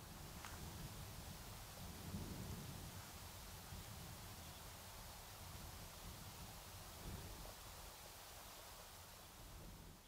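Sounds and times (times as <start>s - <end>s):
steady soft hiss: 0.0s - 10.0s
wind rumble on microphone: 0.0s - 10.0s.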